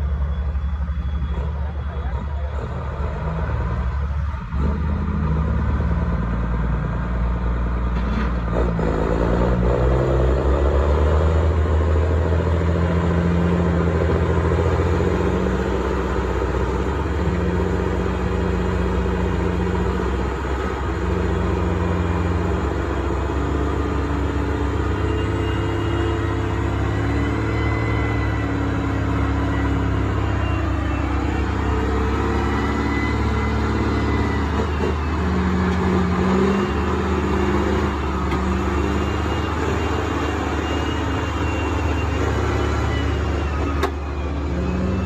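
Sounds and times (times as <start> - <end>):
truck engine running under load: 0.0 - 45.0.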